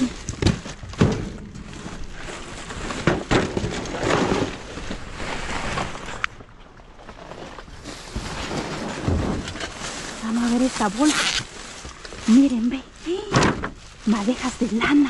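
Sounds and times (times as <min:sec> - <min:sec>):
rustling of bags and debris: 0:00.0 - 0:15.0.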